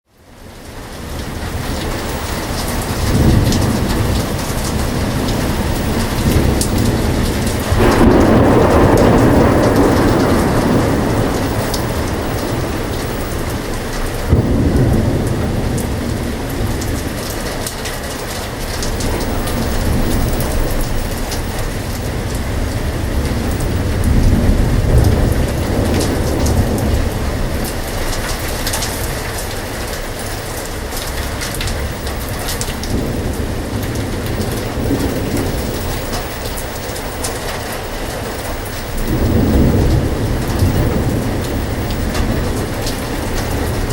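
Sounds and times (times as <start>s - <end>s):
heavy rain pouring: 0.0s - 43.9s
low thunder rumbling: 0.3s - 43.9s.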